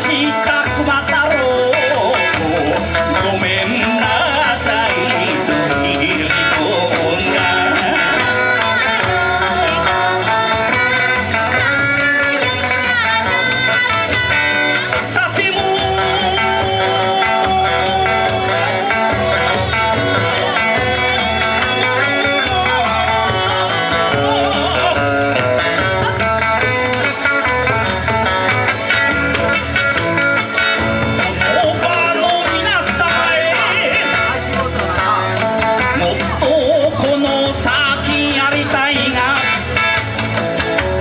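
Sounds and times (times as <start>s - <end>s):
electric guitar: 0.0s - 41.0s.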